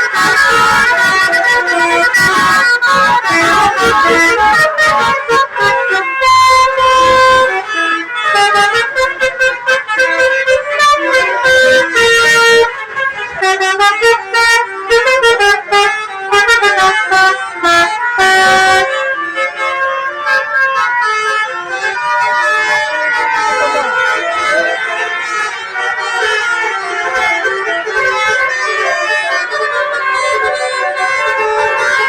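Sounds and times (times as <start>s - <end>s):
bus air horns playing melodies: 0.0s - 32.0s.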